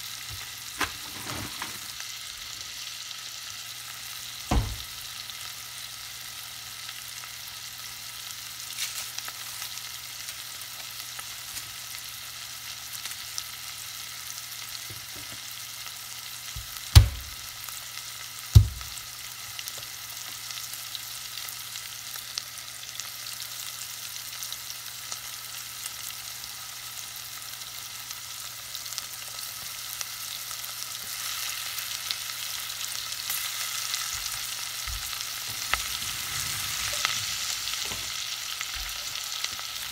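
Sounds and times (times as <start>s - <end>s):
fish sizzling in a pot: 0.0s - 39.9s.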